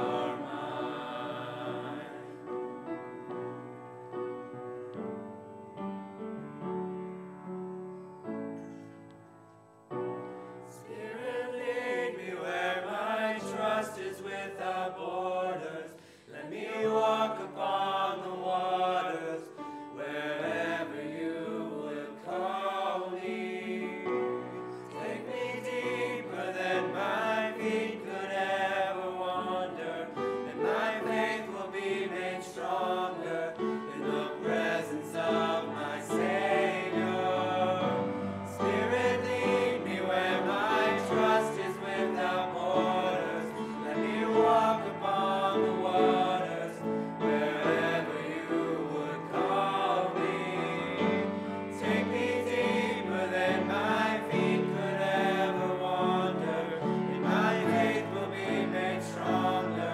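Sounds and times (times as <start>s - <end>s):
young voices singing worship song: 0.0s - 3.3s, 10.5s - 59.9s.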